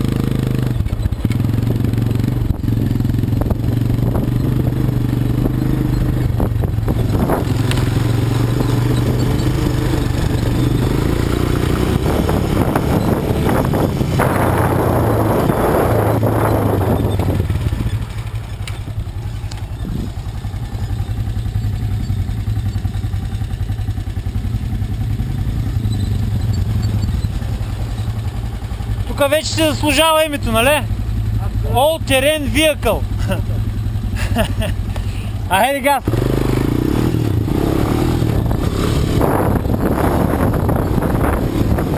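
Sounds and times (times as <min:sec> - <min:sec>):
quad bike engine running: 0:00.0 - 0:41.9.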